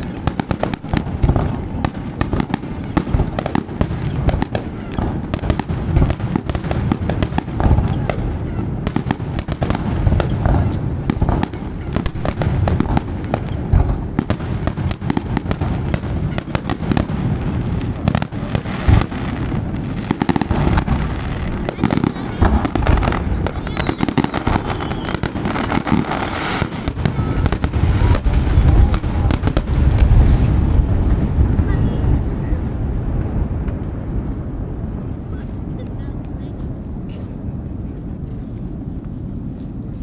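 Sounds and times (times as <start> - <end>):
fireworks bangs and crackling: 0.0 - 40.0
heavy fireworks booms: 0.0 - 40.0.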